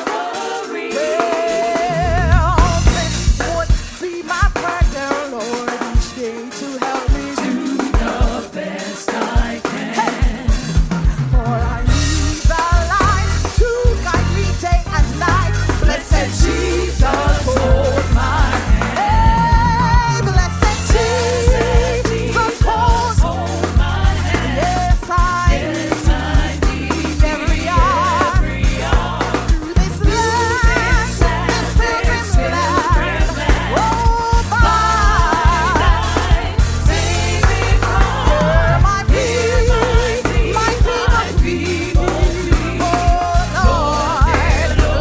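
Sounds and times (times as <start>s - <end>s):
backing voices: 0.0s - 4.1s, 7.3s - 45.0s
drum kit: 0.0s - 45.0s
gospel band playing: 0.0s - 45.0s
keyboards: 0.0s - 45.0s
person singing with vibrato: 0.0s - 45.0s
bass guitar: 1.8s - 5.0s, 10.5s - 45.0s.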